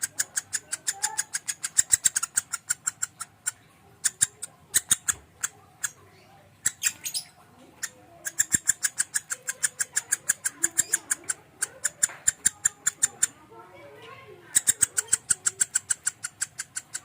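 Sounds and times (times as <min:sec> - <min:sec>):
lovebird rapid chips: 0:00.0 - 0:06.0, 0:06.6 - 0:13.4, 0:14.5 - 0:17.0.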